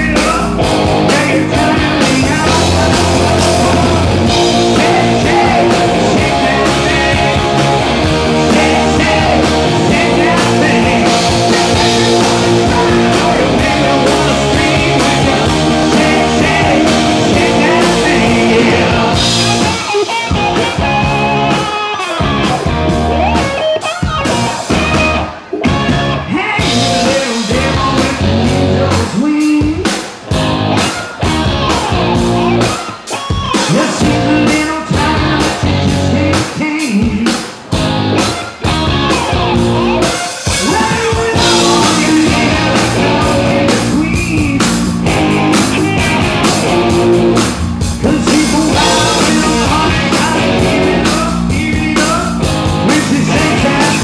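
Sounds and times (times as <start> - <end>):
person singing: 0.0 - 22.3, 23.2 - 30.0, 32.7 - 37.5, 38.3 - 54.0
live rock band playing: 0.0 - 54.0.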